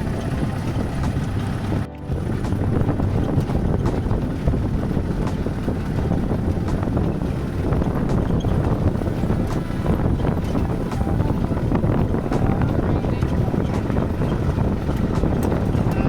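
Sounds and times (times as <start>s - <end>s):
vehicle driving on rough road: 0.0s - 16.0s.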